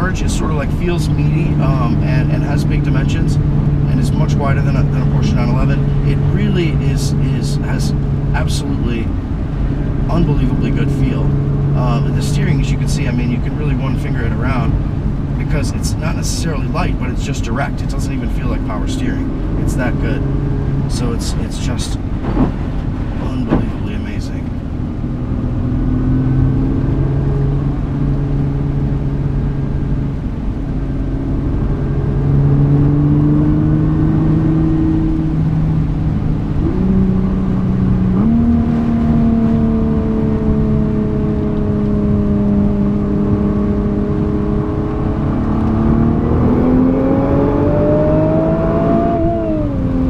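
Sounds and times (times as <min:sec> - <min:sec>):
car engine revving: 0:00.0 - 0:50.0
road and tyre noise: 0:00.0 - 0:50.0.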